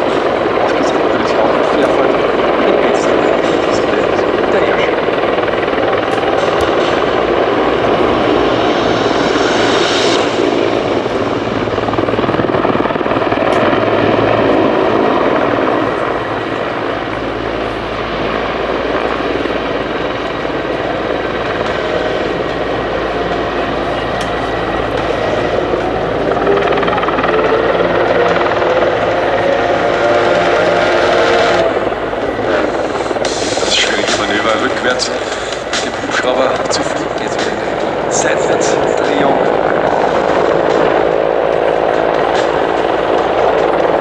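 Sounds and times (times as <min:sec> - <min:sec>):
helicopter flying past: 0:00.0 - 0:44.0
rising whine: 0:00.0 - 0:44.0.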